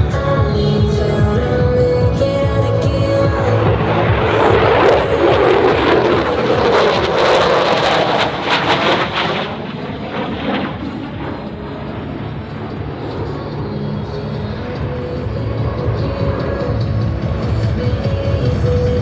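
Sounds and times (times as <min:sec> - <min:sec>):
jet engines roaring past: 0:00.0 - 0:19.0.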